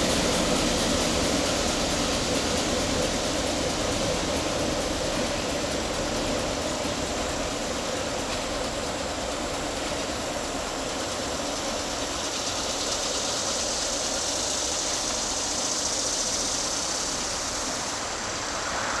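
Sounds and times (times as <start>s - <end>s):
diesel locomotive engines running: 0.0s - 19.0s
hiss: 0.0s - 19.0s.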